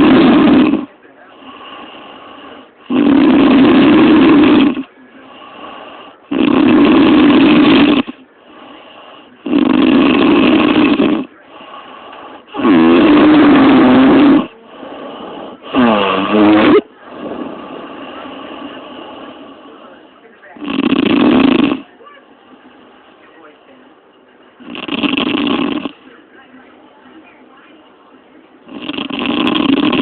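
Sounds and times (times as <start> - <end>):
quiet breathing: 0.0 - 3.0, 3.6 - 20.7, 21.8 - 24.7, 25.7 - 30.0
woman snoring: 0.0 - 20.0, 20.6 - 21.9, 24.6 - 26.0, 28.6 - 30.0.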